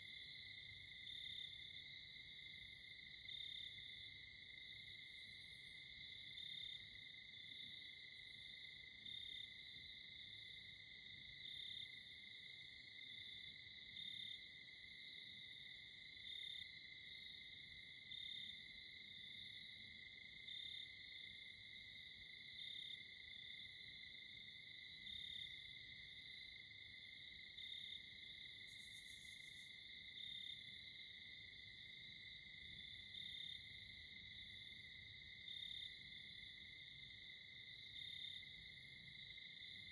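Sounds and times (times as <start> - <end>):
cricket chirp: 0.0 - 39.9.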